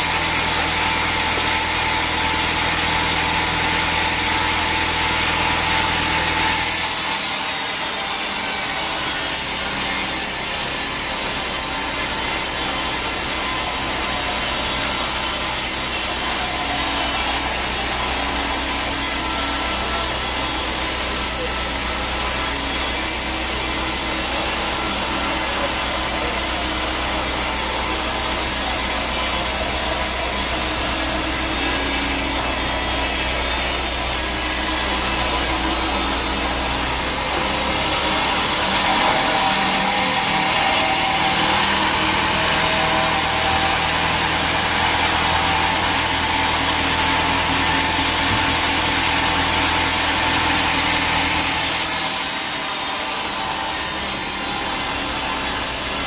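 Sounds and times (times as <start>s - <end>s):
sawmill saw cutting log: 0.0s - 56.0s.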